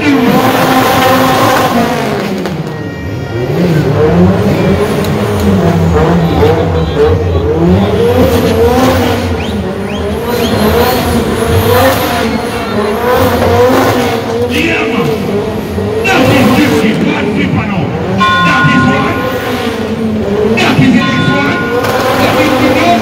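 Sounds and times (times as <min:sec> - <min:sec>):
car engine revving hard: 0:00.0 - 0:02.7, 0:03.3 - 0:23.0.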